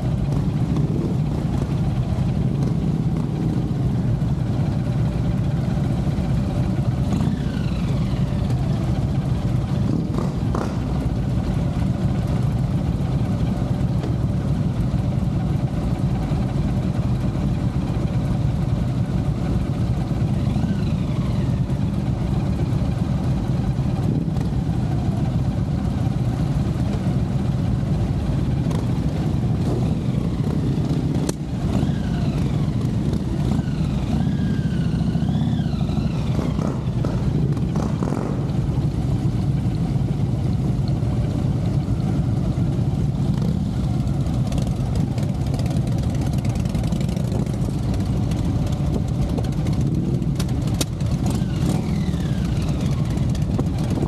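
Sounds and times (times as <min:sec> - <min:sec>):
motorcycle engine rumbling: 0:00.0 - 0:54.0
other motorcycles nearby: 0:00.0 - 0:54.0.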